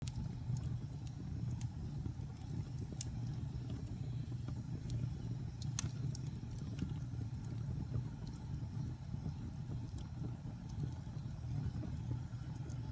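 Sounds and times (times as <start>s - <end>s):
wood fire crackling and popping: 0.0s - 12.9s.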